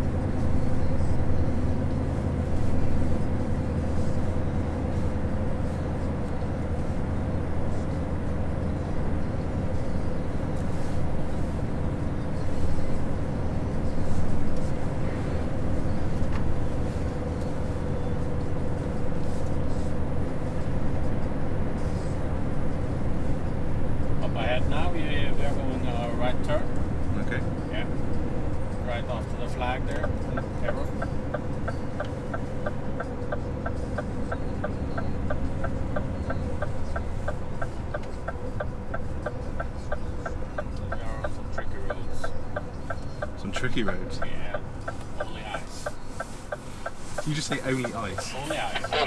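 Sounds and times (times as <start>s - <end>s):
truck engine drone: 0.0s - 49.0s
tyre and road noise: 0.0s - 49.0s.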